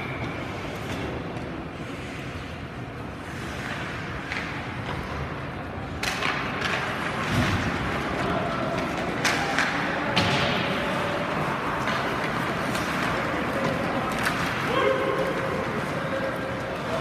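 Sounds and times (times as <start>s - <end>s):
hockey sticks and skates on ice: 0.0s - 17.0s
steady background hum: 0.0s - 17.0s.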